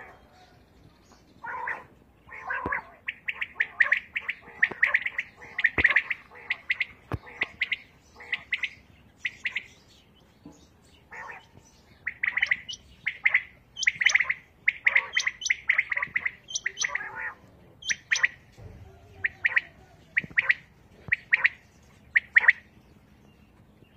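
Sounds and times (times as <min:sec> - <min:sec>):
quails calling: 0:01.2 - 0:22.8.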